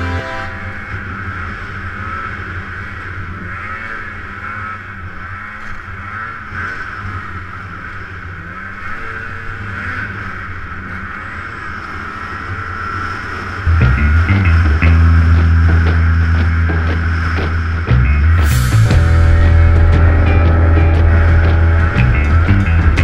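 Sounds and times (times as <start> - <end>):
snowmobile engine under throttle: 0.0 - 23.0.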